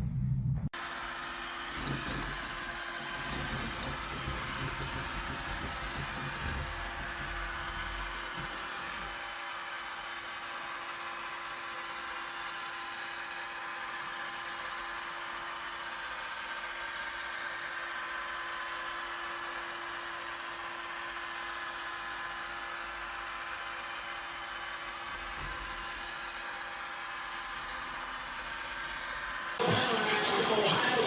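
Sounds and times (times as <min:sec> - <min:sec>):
robot vacuum running: 0:00.8 - 0:31.0.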